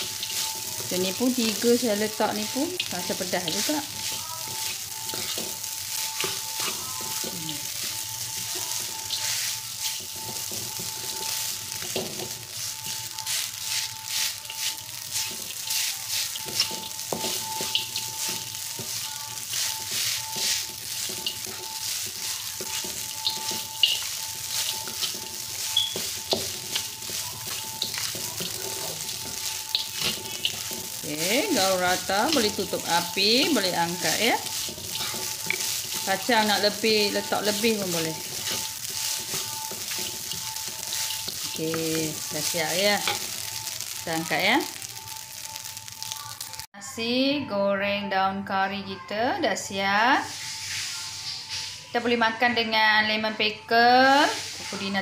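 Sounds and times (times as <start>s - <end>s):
wooden spatula scraping a wok: 0.0s - 44.7s, 50.2s - 51.8s, 54.1s - 55.0s
rice sizzling in a wok: 0.0s - 47.1s, 48.8s - 55.0s.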